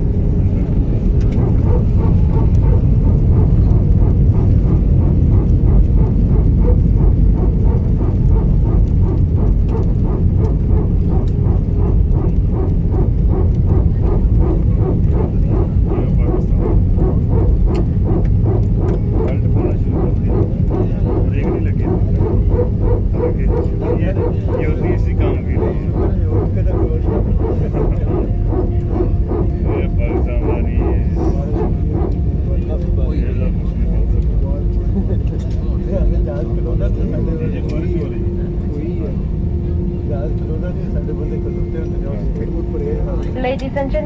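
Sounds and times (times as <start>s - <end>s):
aircraft rumbling on runway: 0.0s - 44.0s
quick regular pulsing: 0.1s - 44.0s.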